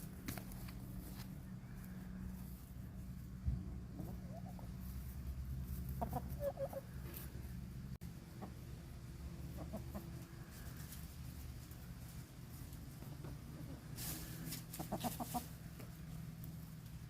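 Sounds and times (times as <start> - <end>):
low hum: 0.0 - 14.4
chickens clucking: 1.3 - 16.1.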